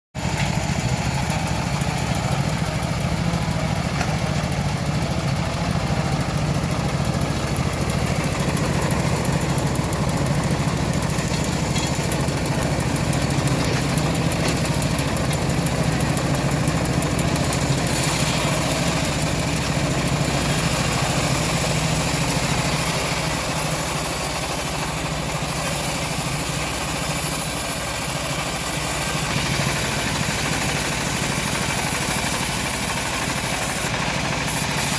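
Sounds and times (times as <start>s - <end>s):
bandsaw mill humming: 0.2s - 34.9s.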